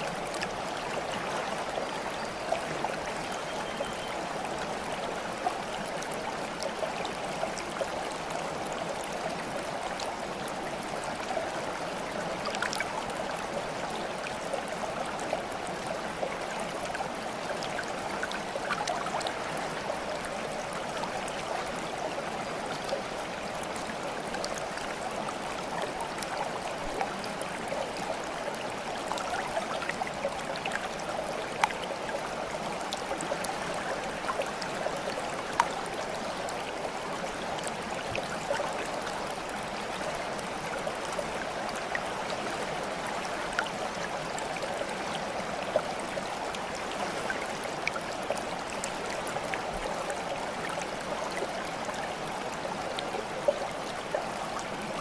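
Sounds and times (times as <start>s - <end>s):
small stream running: 0.0s - 55.0s
water drips and splashes: 0.0s - 55.0s.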